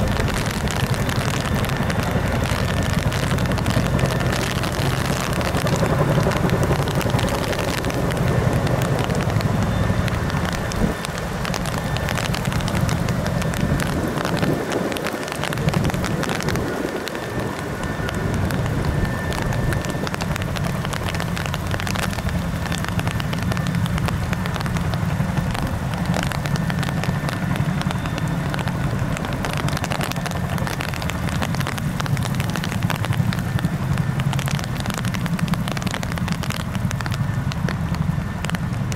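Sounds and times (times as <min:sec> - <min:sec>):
helicopter rotor chop: 0:00.0 - 0:38.9.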